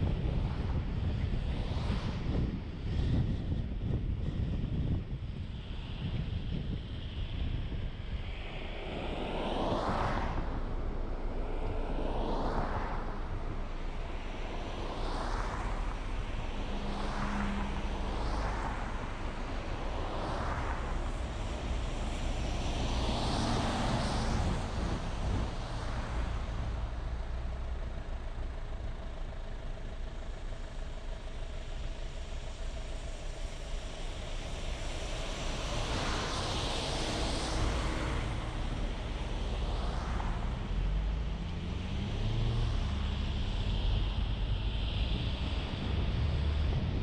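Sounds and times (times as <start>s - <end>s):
vehicle engine and tyre noise: 0.0s - 47.0s
vehicles swishing past: 8.0s - 47.0s.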